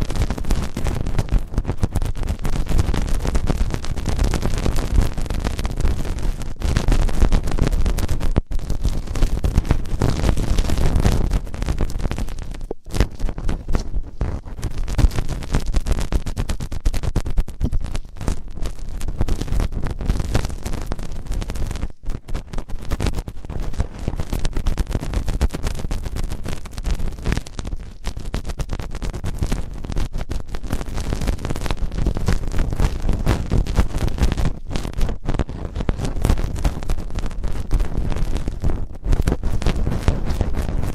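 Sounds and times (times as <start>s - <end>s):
scratching and rubbing at microphone: 0.0s - 40.9s.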